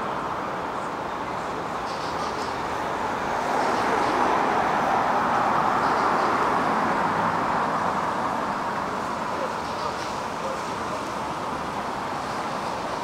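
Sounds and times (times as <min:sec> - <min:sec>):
vehicle running noise: 0:00.0 - 0:13.0.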